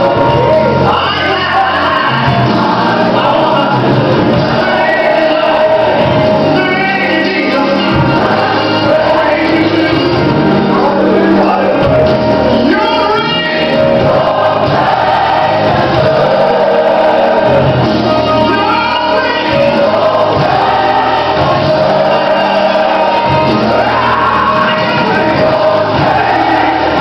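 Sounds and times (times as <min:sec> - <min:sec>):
gospel choir singing: 0:00.0 - 0:27.0.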